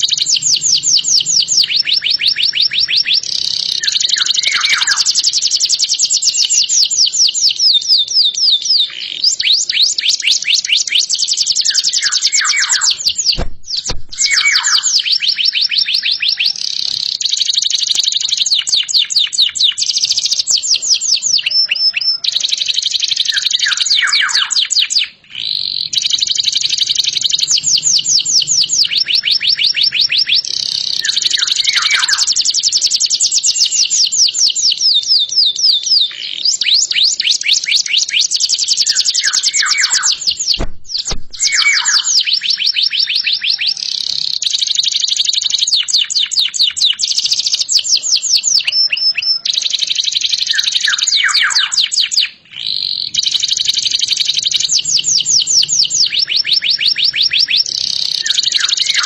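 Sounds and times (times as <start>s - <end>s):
canary singing: 0.0s - 6.4s, 7.8s - 33.8s, 34.7s - 59.0s.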